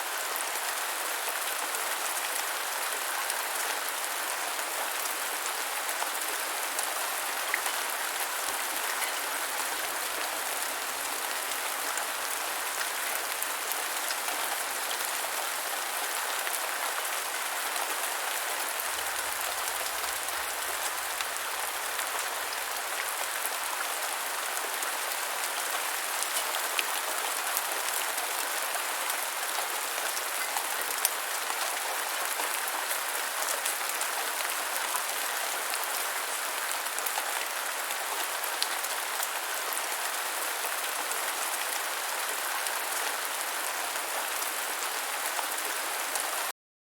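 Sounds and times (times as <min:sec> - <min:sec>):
rain falling on ground: 0:00.0 - 0:46.6.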